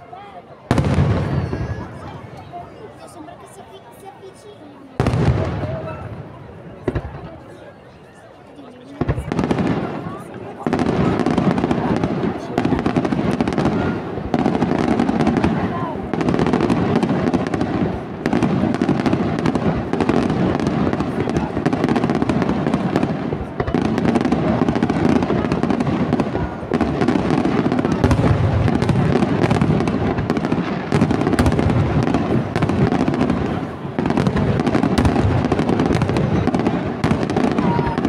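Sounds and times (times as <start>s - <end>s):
fireworks bangs and crackle: 0.1s - 38.0s.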